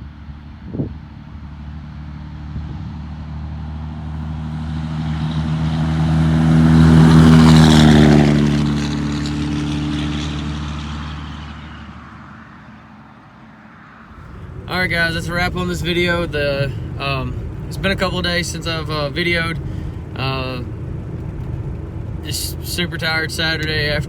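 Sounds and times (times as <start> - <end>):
diesel truck driving past: 0.0 - 24.0.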